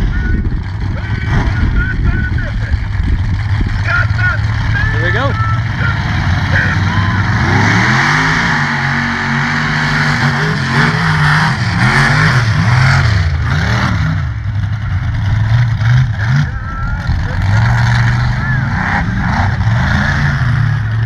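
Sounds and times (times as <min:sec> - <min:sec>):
truck engines revving hard: 0:00.0 - 0:21.0.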